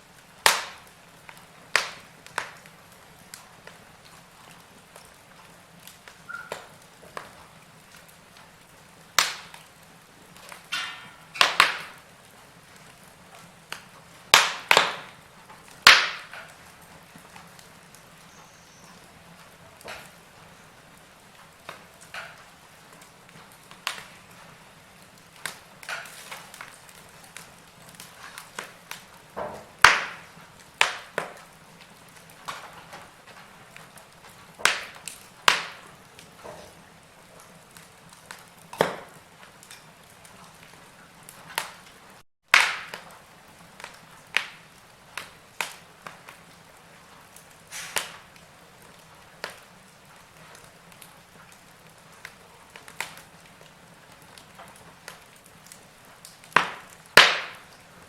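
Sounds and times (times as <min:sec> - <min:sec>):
faint steady hiss: 0:00.0 - 0:58.0
fire crackling and popping: 0:00.0 - 0:58.0.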